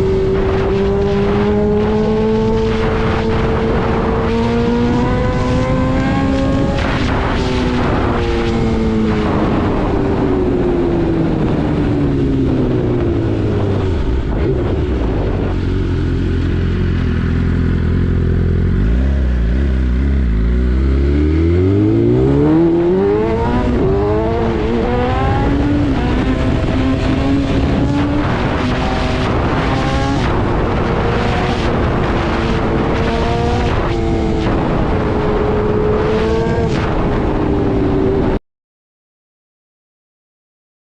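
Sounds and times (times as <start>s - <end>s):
motorcycle engine: 0.0s - 38.4s.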